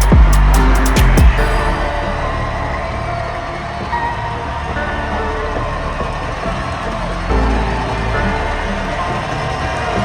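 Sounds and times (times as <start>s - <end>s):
music with short held notes: 0.0s - 10.0s
steady low rumble: 0.0s - 10.0s.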